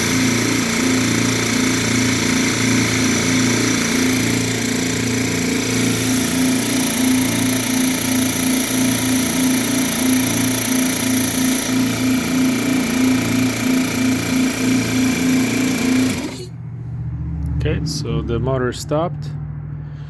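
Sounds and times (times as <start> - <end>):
air compressor running: 0.0 - 16.7.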